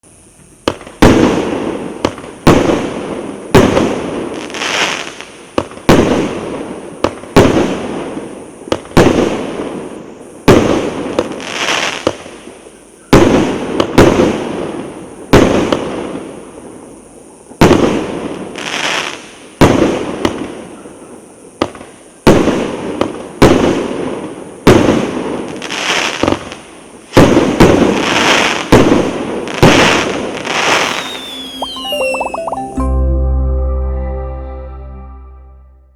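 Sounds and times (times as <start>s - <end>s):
crackling hiss: 0.0s - 32.7s.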